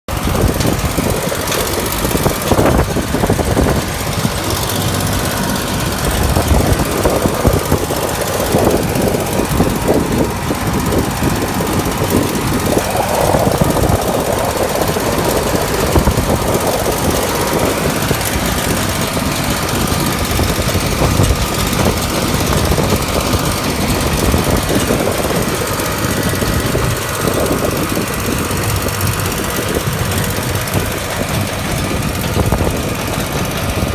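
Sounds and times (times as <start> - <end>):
tractor engine running under load: 0.1 - 33.9.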